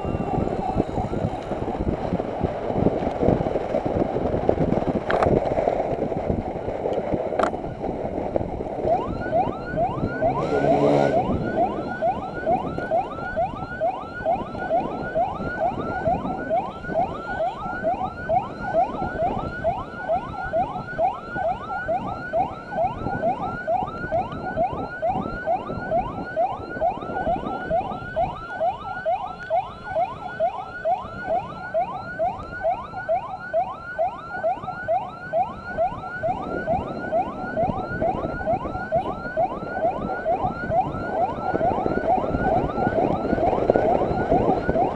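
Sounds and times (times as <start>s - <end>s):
emergency siren yelping: 0.0s - 4.4s, 7.3s - 44.9s
wind and road noise: 0.0s - 44.9s.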